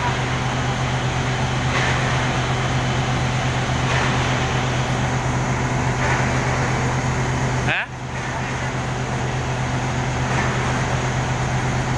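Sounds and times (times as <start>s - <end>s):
diesel engine drone: 0.0s - 11.9s.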